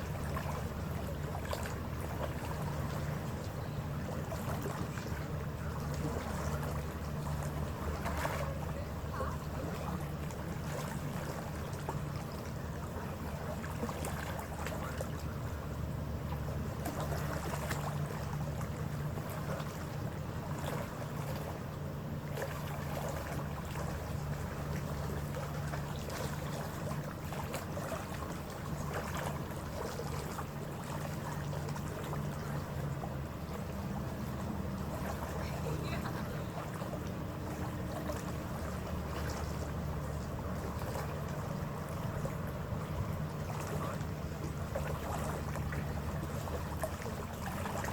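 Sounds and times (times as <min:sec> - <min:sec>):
ferry engines droning: 0:00.0 - 0:47.9
water rushing along hull: 0:00.0 - 0:47.9.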